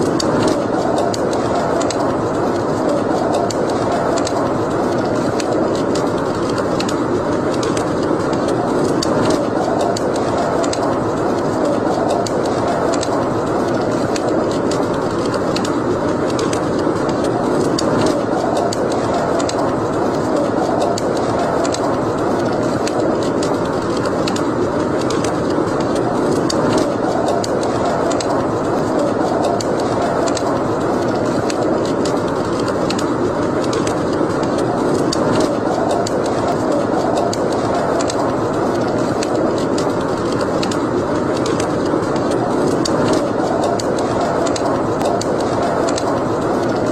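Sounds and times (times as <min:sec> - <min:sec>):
fire crackling and popping: 0:00.0 - 0:46.9
wood fire flames rushing: 0:00.0 - 0:46.9.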